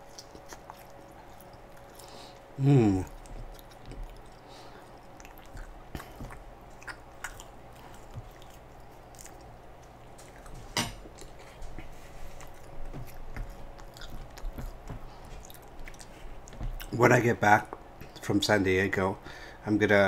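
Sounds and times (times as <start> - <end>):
man chewing food: 0.0 - 17.0, 17.6 - 18.3.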